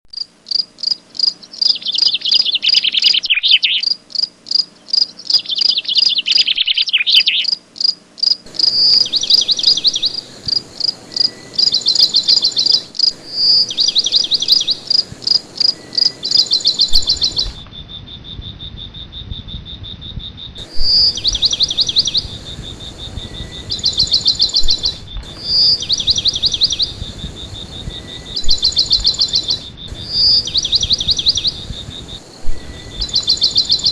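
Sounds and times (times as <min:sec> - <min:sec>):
crickets chirping in pulsed trills: 0:00.1 - 0:33.9
high insect trill: 0:00.1 - 0:33.9
bird calls: 0:00.5 - 0:33.9.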